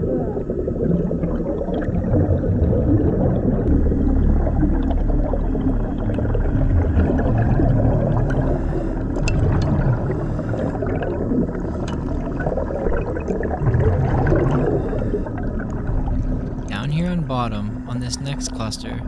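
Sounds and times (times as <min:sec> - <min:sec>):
underwater breathing and bubbles: 0:00.0 - 0:19.0.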